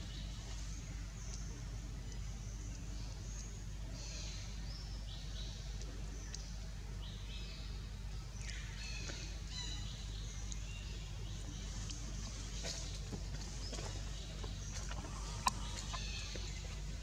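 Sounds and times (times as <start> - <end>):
steady low background hum: 0.0 - 17.0.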